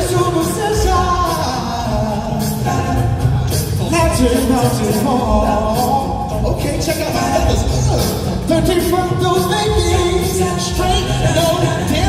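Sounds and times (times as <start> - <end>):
male vocal group singing in harmony: 0.0 - 12.0.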